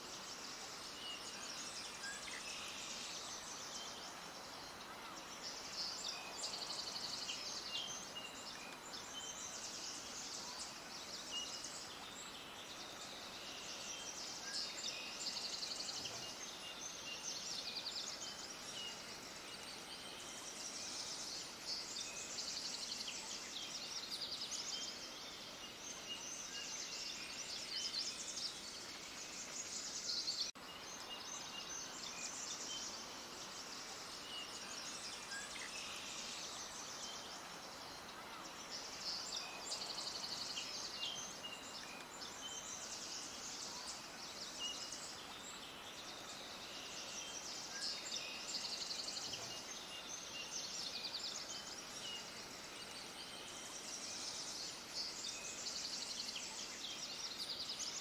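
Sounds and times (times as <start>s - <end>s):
faint hiss: 0.0s - 58.0s
small birds chirping: 0.0s - 58.0s.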